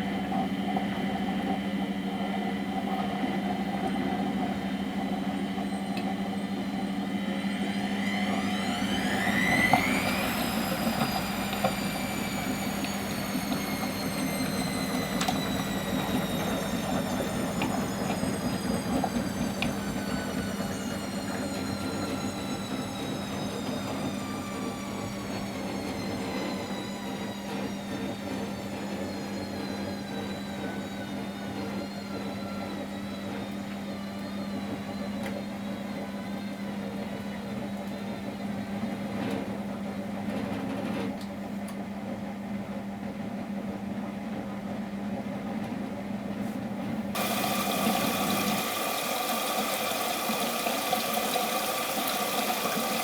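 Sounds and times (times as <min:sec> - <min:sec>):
water rushing into washing machine: 0:00.0 - 0:41.1, 0:47.1 - 0:53.0
washing machine drum motor whine: 0:00.0 - 0:53.0.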